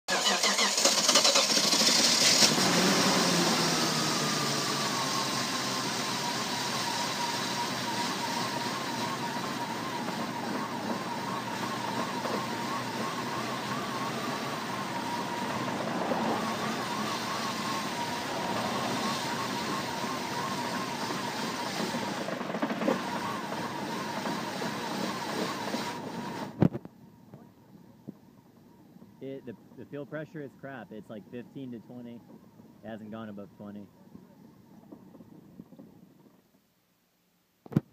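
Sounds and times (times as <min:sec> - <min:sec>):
car engine idling with faint whine: 0:00.1 - 0:36.8.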